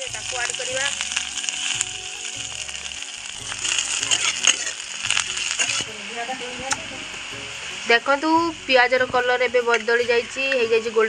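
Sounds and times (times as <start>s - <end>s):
background music: 0.0s - 11.0s
onions sizzling in hot oil: 0.0s - 11.0s.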